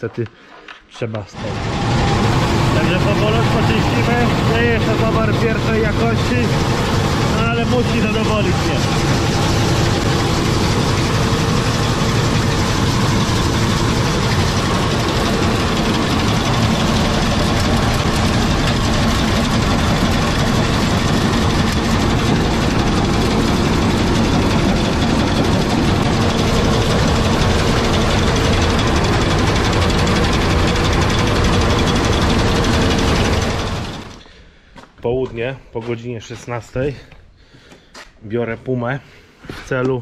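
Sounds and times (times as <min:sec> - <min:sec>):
seed-cleaning machine running: 0:01.4 - 0:34.2.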